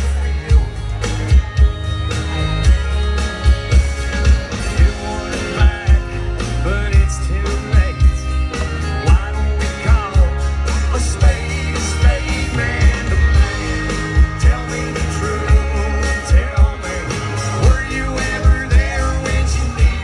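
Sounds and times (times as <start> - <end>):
man singing lead vocal: 0.0 - 1.7, 4.1 - 20.0
live country rock band: 0.0 - 20.0.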